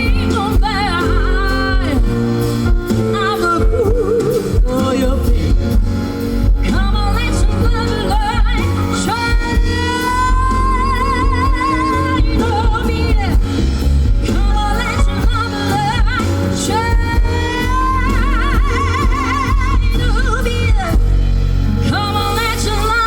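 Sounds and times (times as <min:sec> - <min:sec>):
woman singing with vibrato: 0:00.0 - 0:06.0, 0:06.6 - 0:23.0
live band playing soul ballad: 0:00.0 - 0:23.0.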